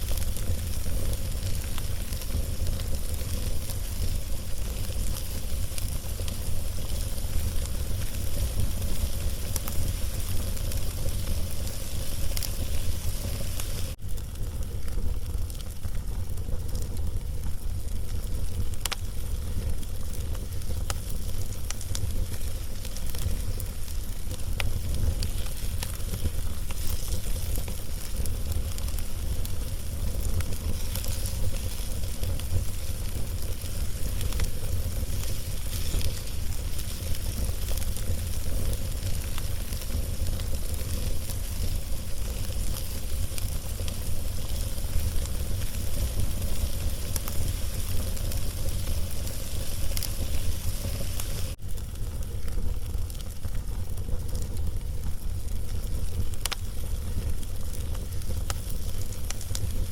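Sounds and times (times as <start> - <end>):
low rumble of fire: 0.0 - 59.9
wood fire crackling and popping: 0.0 - 59.9.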